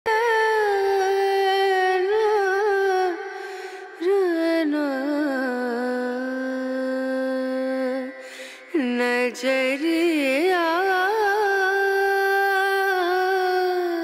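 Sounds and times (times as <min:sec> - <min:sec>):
person singing ornamented melody: 0:00.1 - 0:14.0.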